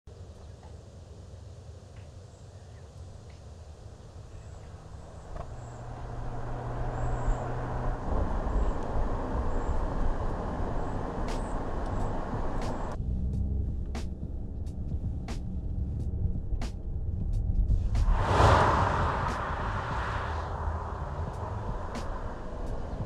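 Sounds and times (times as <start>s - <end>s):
car engine running: 3.7s - 23.0s.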